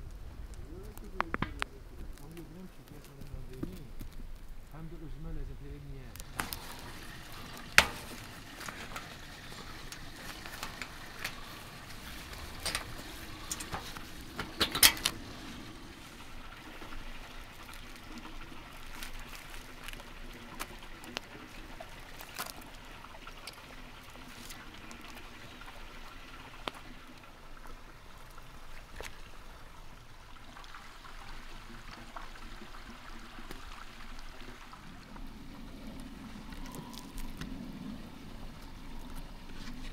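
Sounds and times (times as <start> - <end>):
steady soft hiss: 0.0 - 39.9.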